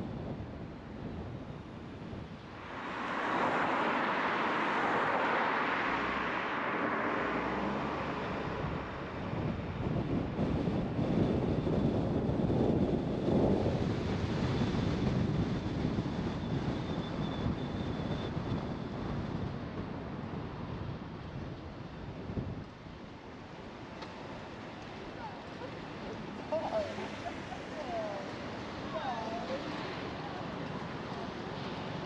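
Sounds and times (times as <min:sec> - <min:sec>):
road traffic noise: 0:00.0 - 0:32.0
wind: 0:00.0 - 0:32.0.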